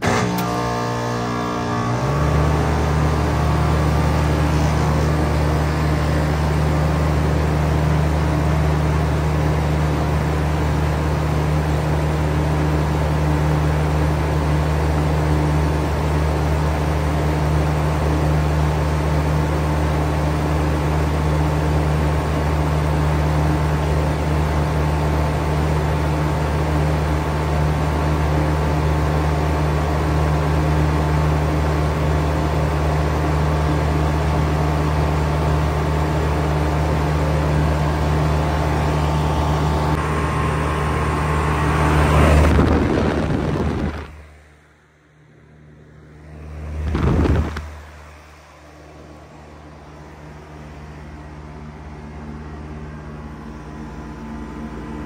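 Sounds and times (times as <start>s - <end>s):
condenser fans blowing: 0.0s - 55.0s
heat pump machine hum: 0.0s - 55.0s.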